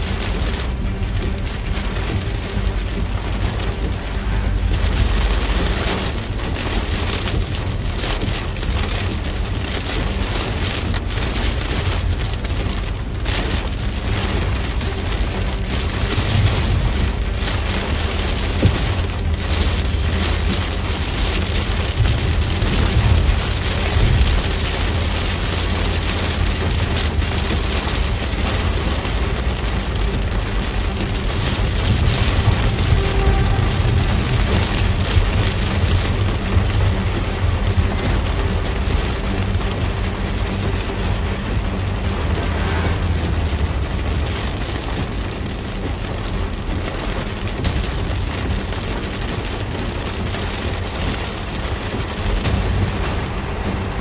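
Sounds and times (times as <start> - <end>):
car rumbling on wet road: 0.0 - 54.0
heavy rain on car roof: 0.0 - 54.0.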